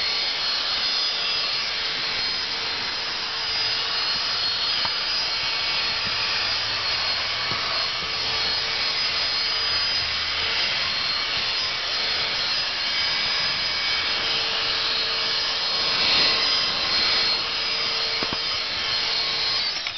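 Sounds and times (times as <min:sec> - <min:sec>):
handheld vacuum cleaner whining: 0:00.0 - 0:19.9.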